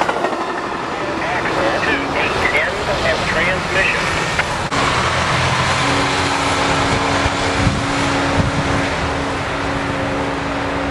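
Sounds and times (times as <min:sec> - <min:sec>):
train rushing noise: 0:00.0 - 0:10.9.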